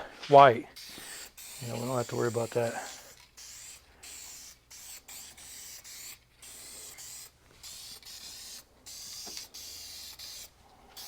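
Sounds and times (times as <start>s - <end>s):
spray paint can hissing: 0.7s - 11.0s.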